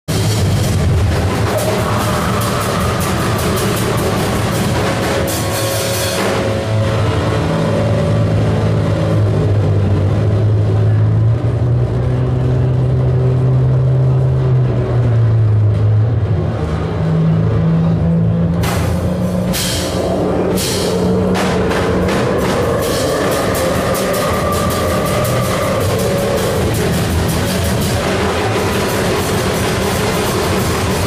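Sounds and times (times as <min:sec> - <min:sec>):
harsh distorted electronic noise: 0:00.1 - 0:14.4, 0:16.3 - 0:31.0
low electronic drone: 0:00.1 - 0:31.0.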